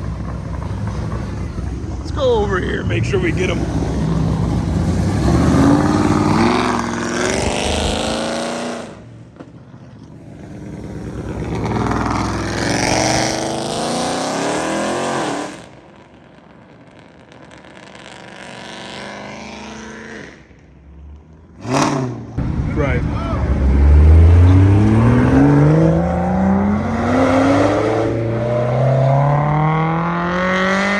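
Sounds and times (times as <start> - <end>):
car engines accelerating: 0.0 - 30.9.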